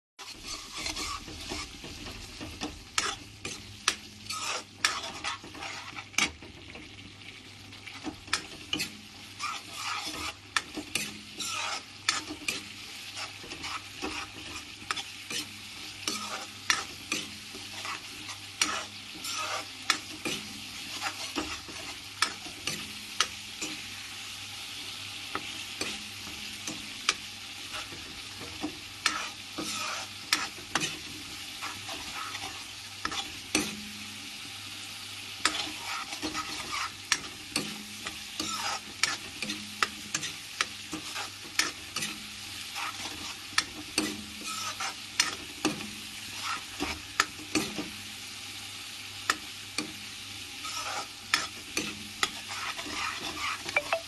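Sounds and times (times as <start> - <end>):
metal spatula scraping wok: 0.2 - 6.4, 7.9 - 23.9, 25.3 - 33.9, 35.4 - 47.9, 50.6 - 54.0
spice paste sizzling in oil: 0.2 - 54.0.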